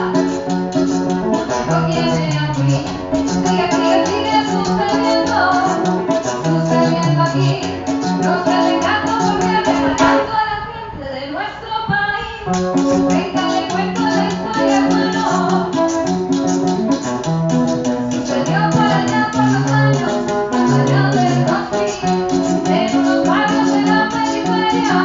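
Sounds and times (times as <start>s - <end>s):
acoustic guitar strumming: 0.0s - 10.3s, 12.5s - 25.0s.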